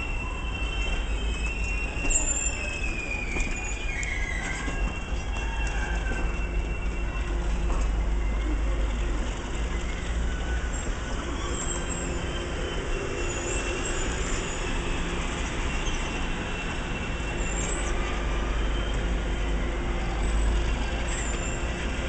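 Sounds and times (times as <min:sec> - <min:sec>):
high wheel squeals: 0:00.0 - 0:22.0
train wheels rumbling on rail: 0:00.0 - 0:22.0.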